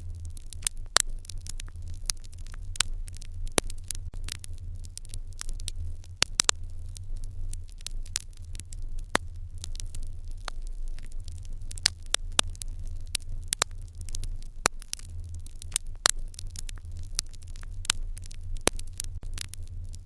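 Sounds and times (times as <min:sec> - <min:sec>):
hearth fire crackling and popping: 0:00.0 - 0:20.0.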